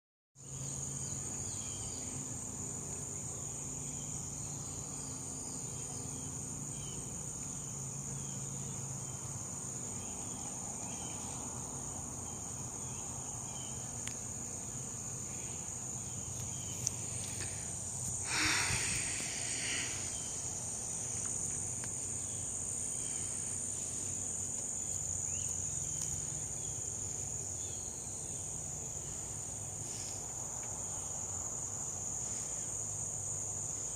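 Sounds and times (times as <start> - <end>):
crickets chirping: 0.4 - 33.9.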